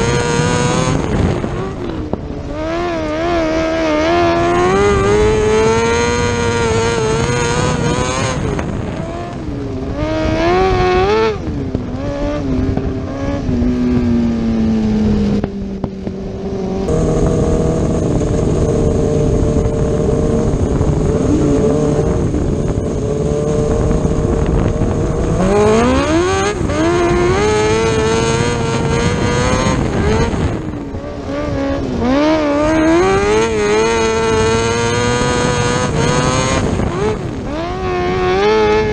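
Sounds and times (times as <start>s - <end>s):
racing motorcycle engine revving: 0.0s - 38.9s.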